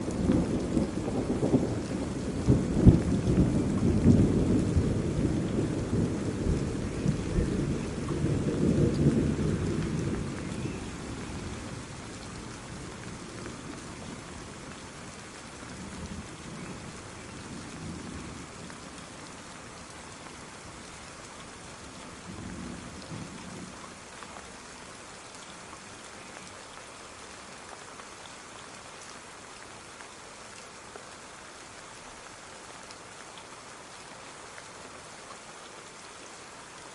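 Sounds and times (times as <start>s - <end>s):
rain hissing: 0.0s - 36.9s.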